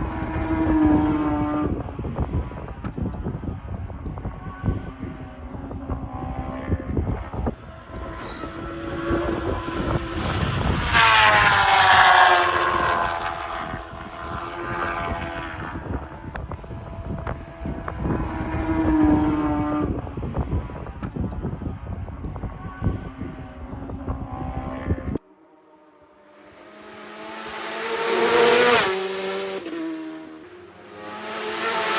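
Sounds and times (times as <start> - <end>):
faint engine: 0.0 - 31.9
motorcycle passing at full speed: 0.0 - 31.9.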